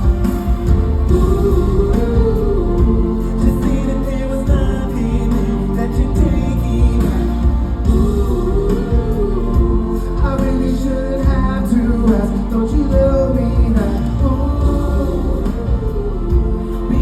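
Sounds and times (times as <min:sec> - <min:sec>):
live pop song: 0:00.0 - 0:17.0.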